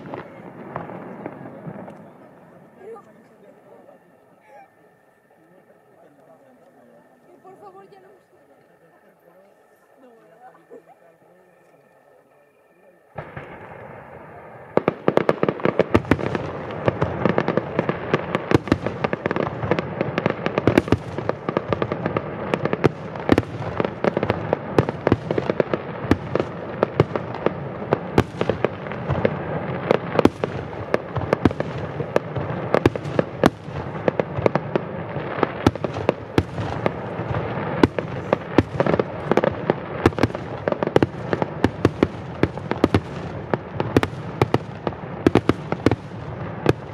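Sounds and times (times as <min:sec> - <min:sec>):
fireworks bursting and crackling: 0:00.0 - 0:46.9.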